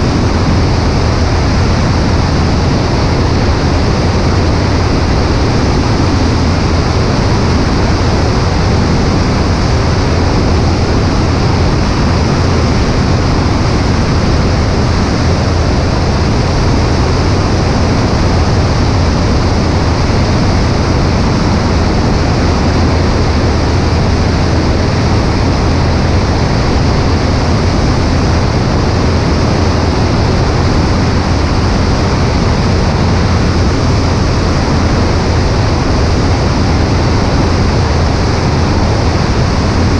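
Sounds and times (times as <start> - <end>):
airplane engine and propeller drone: 0.0 - 39.9
wind rushing on microphone: 0.0 - 39.9.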